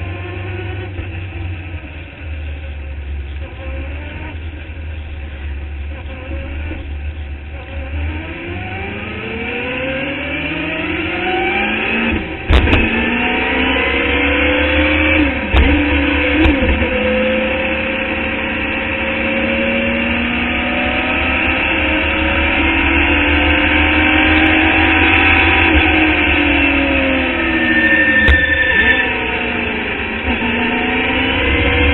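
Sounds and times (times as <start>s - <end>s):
race car engine accelerating: 5.4s - 31.9s.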